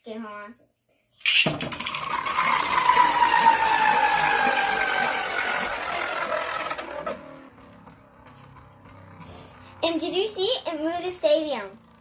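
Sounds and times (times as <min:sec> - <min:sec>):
spinning top launcher rasp: 0:01.2 - 0:12.0
spinning top whirring: 0:01.2 - 0:12.0.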